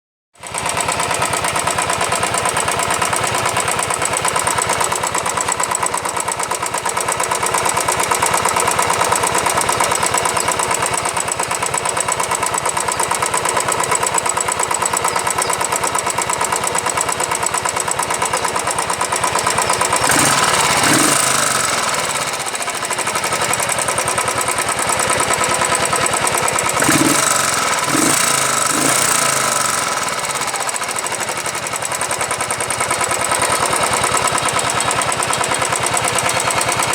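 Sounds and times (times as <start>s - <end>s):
motorcycle engine running: 0.4s - 36.9s
fast tappet ticking: 2.2s - 36.9s.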